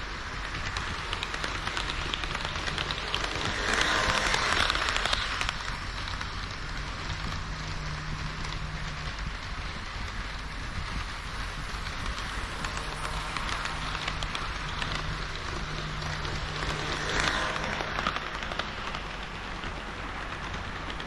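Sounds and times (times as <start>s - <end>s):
model train wheels clattering: 0.0s - 21.0s.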